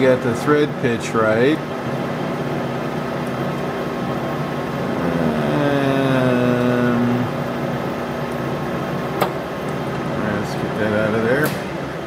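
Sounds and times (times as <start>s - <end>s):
steady shop hum: 0.0s - 12.0s.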